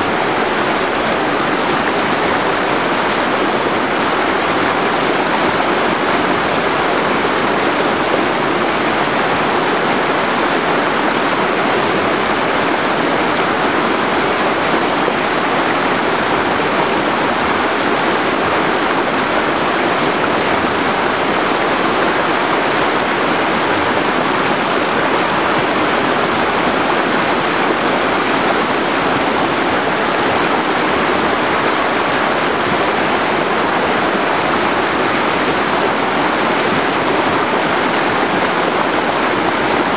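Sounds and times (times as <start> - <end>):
whitewater rapid rushing: 0.0 - 39.9.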